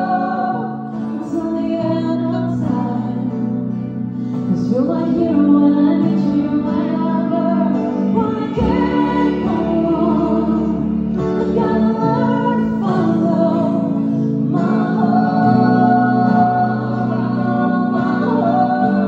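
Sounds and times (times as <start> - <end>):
keyboard: 0.0 - 19.0
strummed acoustic guitars: 0.0 - 19.0
woman singing: 0.0 - 19.0.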